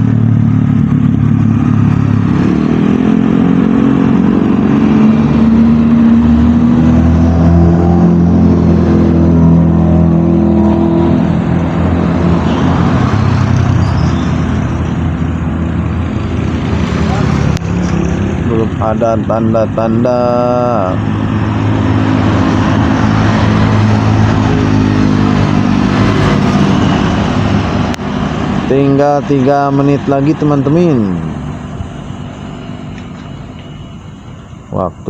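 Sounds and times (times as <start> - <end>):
vehicle engine revving: 0.0 - 35.0.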